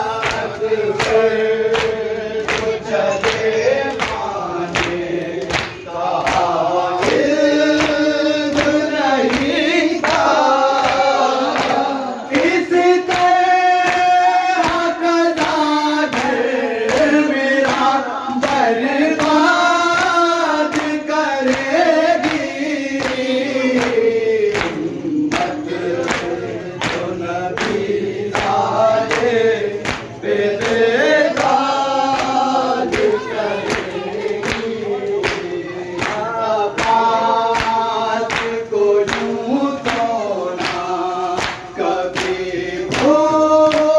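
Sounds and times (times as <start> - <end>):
men singing in unison: 0.0 - 43.9.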